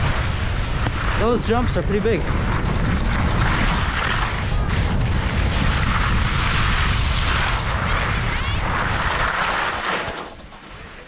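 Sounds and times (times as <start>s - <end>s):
skis hissing on snow: 0.0s - 11.0s
wind buffeting microphone: 0.0s - 11.0s.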